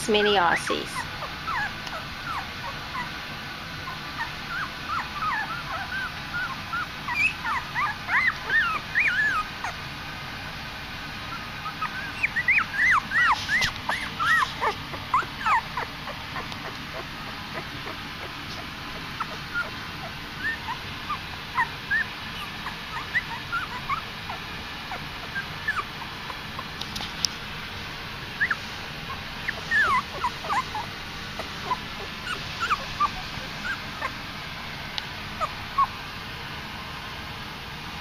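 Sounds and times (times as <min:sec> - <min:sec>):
puppies whimpering and squeaking: 0:00.0 - 0:10.0, 0:11.1 - 0:36.2.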